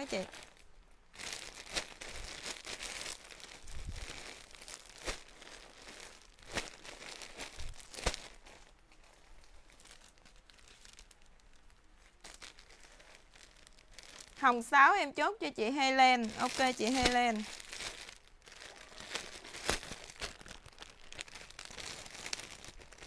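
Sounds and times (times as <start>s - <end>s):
plastic bags crinkling and rustling: 0.0s - 23.0s.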